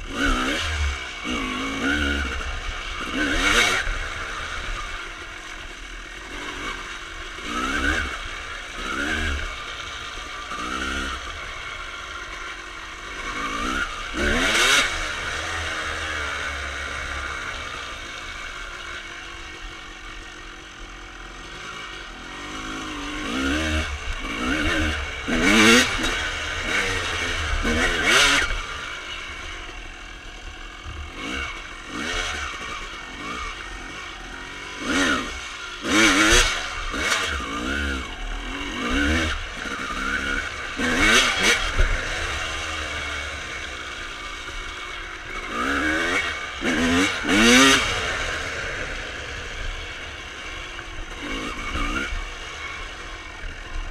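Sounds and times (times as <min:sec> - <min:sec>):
two-stroke motorcycle engine revving: 0:00.0 - 0:53.9.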